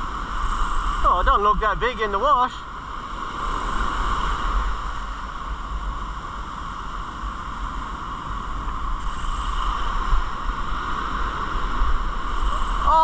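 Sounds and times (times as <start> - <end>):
wind buffeting microphone: 0.0 - 13.0
surf breaking on sand: 0.2 - 13.0.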